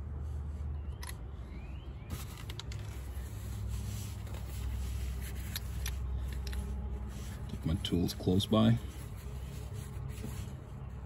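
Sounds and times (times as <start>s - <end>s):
steady low hum: 0.0s - 11.0s
handling clicks and rustles: 0.8s - 11.0s.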